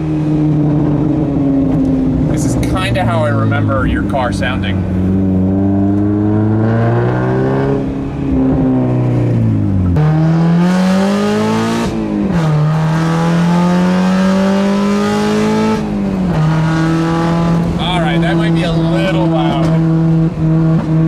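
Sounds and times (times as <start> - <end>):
loud car engine accelerating: 0.0 - 21.0.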